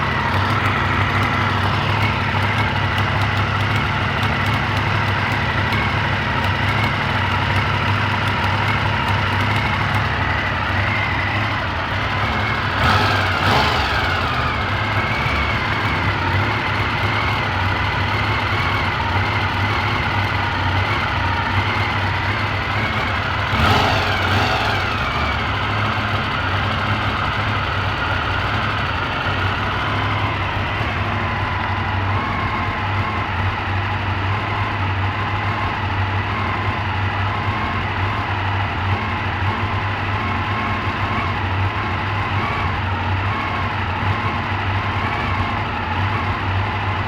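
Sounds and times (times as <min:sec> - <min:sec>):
motorcycle engine idling: 0:00.0 - 0:47.0
strange exhaust noise: 0:00.0 - 0:47.0.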